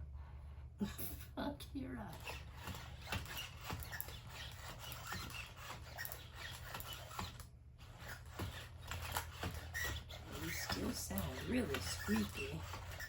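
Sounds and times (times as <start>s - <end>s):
robot dog motors squeaking and clicking: 2.1s - 13.0s
short high squeaks: 2.2s - 13.0s.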